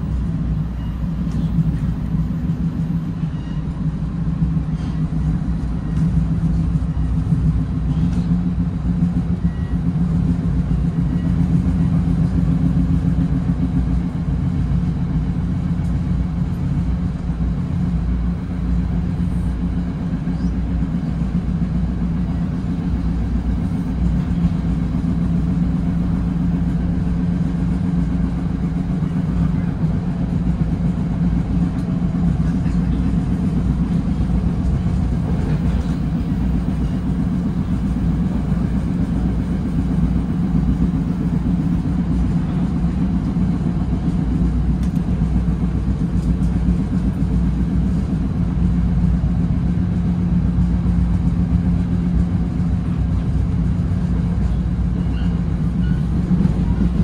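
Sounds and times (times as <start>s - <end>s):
train coach rumbling on rails: 0.0s - 57.0s.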